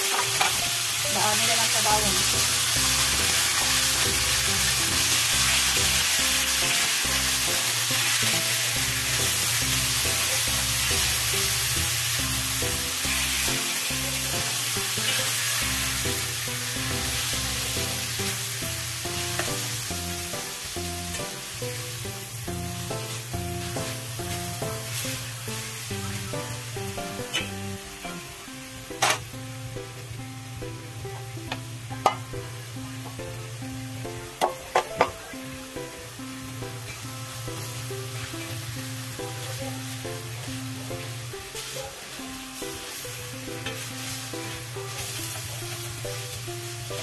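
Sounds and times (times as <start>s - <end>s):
background music: 0.0s - 47.0s
chicken sizzling in hot oil: 0.0s - 47.0s.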